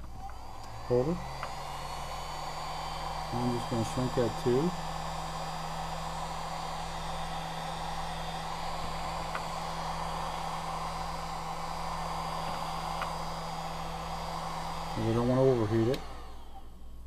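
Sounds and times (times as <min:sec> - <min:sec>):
heat gun fan blowing: 0:00.0 - 0:17.0
motor hum: 0:00.0 - 0:17.0.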